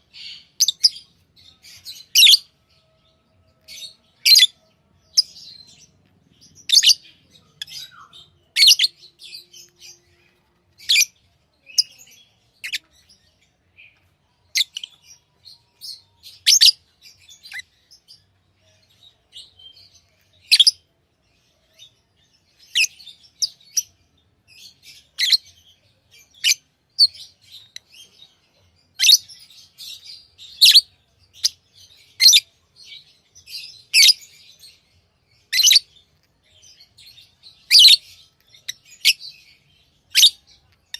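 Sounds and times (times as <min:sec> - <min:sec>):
birds chattering: 0:00.0 - 0:40.9
lovebirds chirping: 0:00.0 - 0:40.9.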